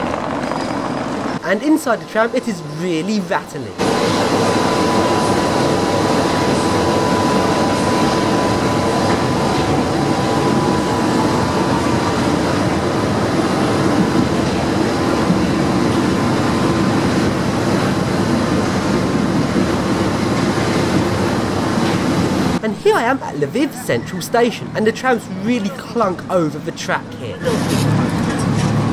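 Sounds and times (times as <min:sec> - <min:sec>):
thin steady whine: 0:00.0 - 0:27.5.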